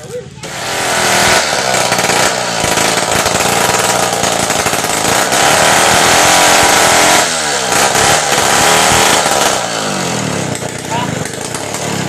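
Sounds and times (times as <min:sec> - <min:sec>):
chainsaw cutting at high revs: 0:00.4 - 0:12.0.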